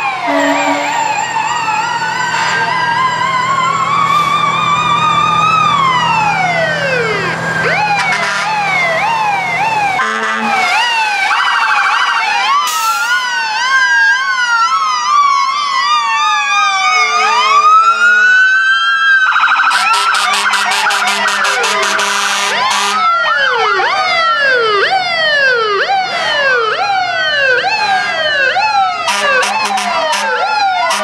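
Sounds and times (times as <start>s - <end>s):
rapid pulsing siren tone: 0.0s - 12.3s, 16.3s - 31.0s
sirens wailing and yelping: 0.0s - 31.0s.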